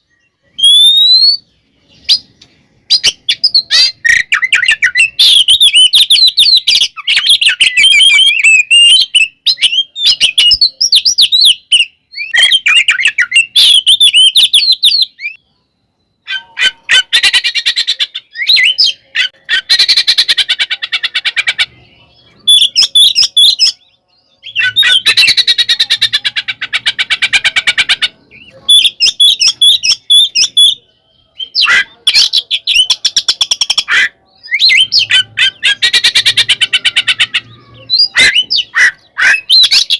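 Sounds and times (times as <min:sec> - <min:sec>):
songbird singing whistles and rattles: 0:00.0 - 0:39.9.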